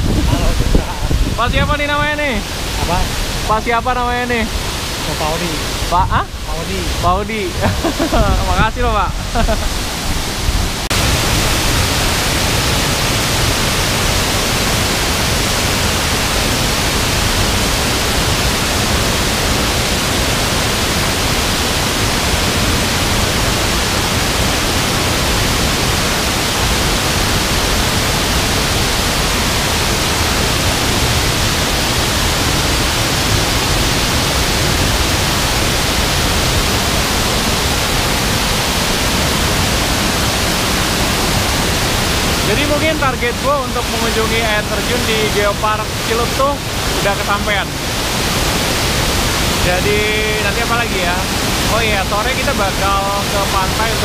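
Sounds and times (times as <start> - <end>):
waterfall rushing onto rock: 0.0 - 54.0.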